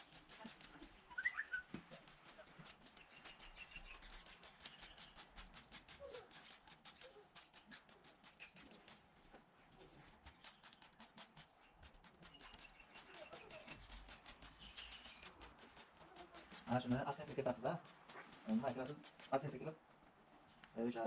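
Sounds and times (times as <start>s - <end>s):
faint rapid clicking: 0.0s - 9.1s, 10.0s - 19.8s.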